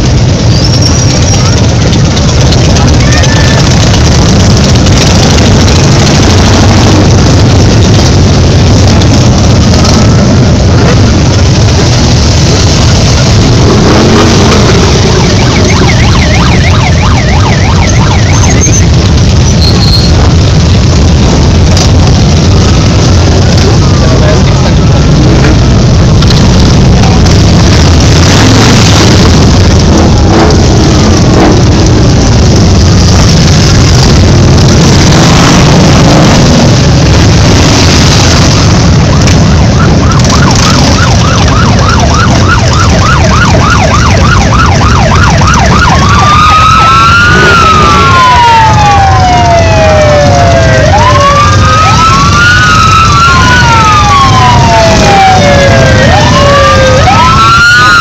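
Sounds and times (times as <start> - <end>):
motorcycle engines rumbling: 0.0 - 58.0
siren yelping and wailing: 0.0 - 58.0.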